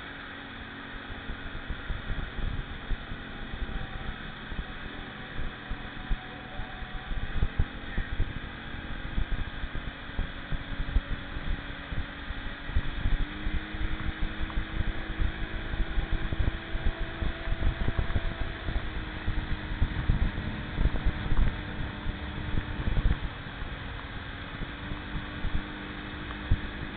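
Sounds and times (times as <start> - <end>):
motorboat engine running: 0.0 - 26.9
wind buffeting microphone: 1.2 - 26.9.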